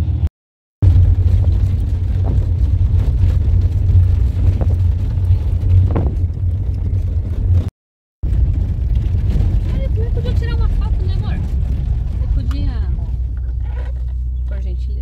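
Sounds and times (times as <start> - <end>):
vehicle rumble heard from inside: 0.0 - 15.0.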